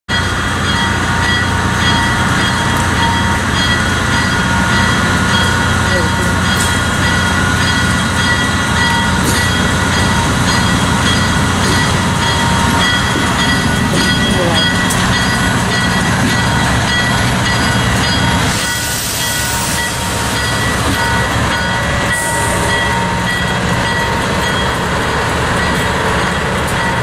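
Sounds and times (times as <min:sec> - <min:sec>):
diesel locomotive engine droning: 0:00.1 - 0:27.0.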